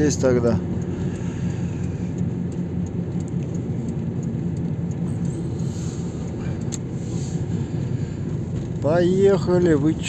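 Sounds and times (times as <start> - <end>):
vehicle engine and road drone: 0.0 - 10.0.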